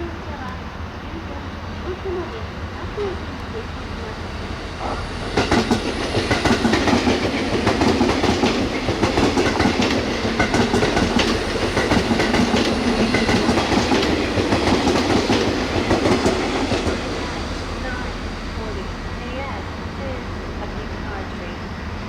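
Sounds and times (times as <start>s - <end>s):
train running noise: 0.0s - 22.0s
wheels clacking over rail joints: 2.7s - 20.8s.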